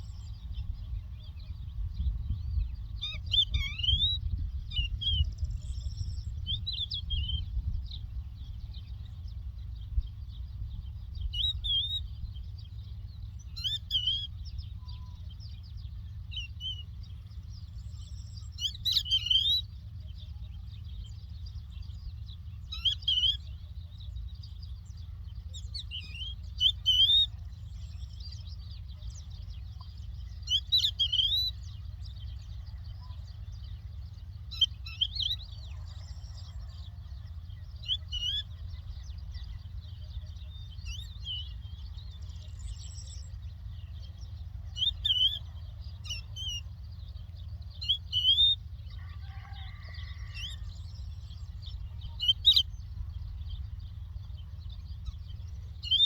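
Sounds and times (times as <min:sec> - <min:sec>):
steady low hum: 0:00.0 - 0:49.2, 0:49.9 - 0:56.0
lark singing: 0:00.0 - 0:56.0.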